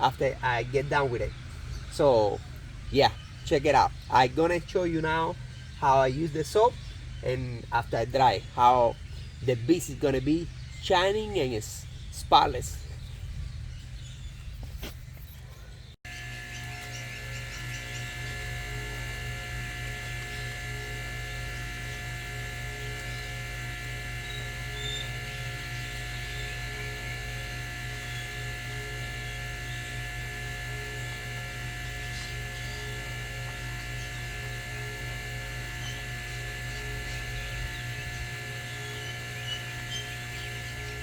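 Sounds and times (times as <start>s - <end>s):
constant high tones: 0.0s - 12.8s, 16.1s - 41.0s
electrical hum: 0.0s - 41.0s.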